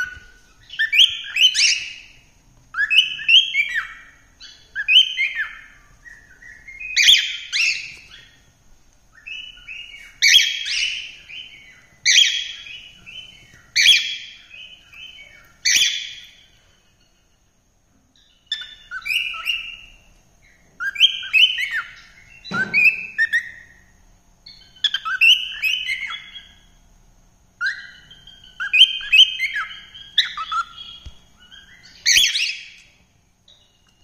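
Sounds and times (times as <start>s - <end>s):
cockatiel whistled chirps: 0.0s - 8.4s, 9.1s - 16.5s, 18.2s - 23.8s, 24.4s - 26.7s, 27.6s - 32.9s.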